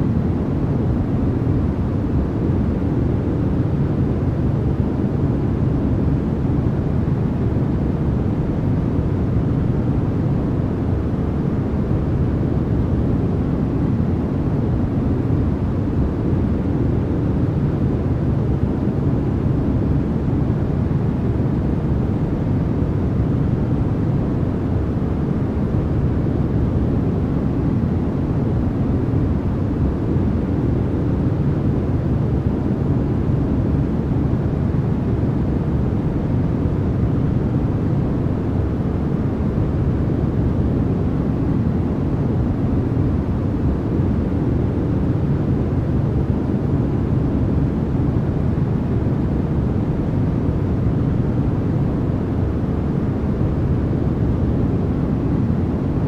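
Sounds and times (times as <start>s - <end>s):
deep white noise rush: 0.0s - 56.0s.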